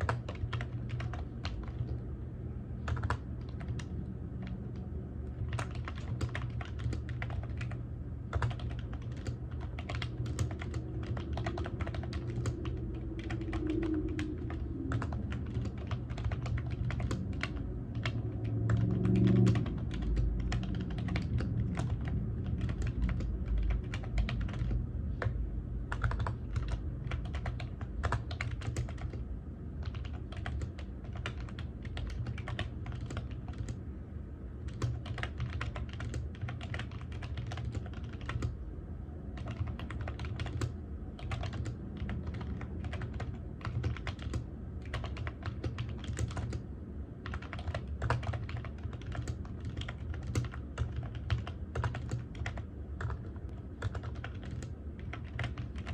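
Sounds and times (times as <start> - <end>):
computer keyboard typing: 0.0 - 2.1, 2.8 - 33.8, 34.6 - 38.6, 39.3 - 46.6, 47.2 - 55.9.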